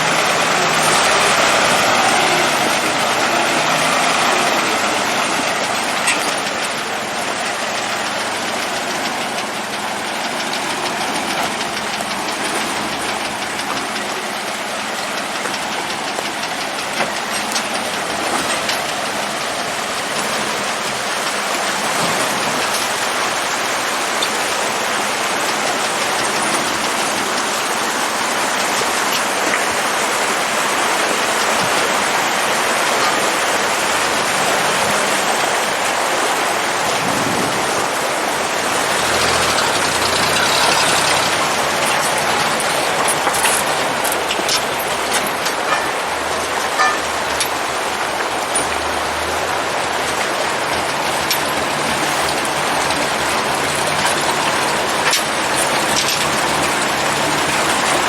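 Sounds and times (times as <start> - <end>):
truck engine clattering: 0.0 - 58.0.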